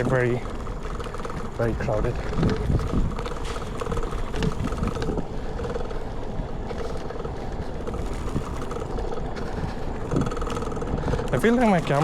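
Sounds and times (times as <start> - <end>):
bicycle rattling: 0.0 - 12.0
wind buffeting microphone: 0.0 - 12.0.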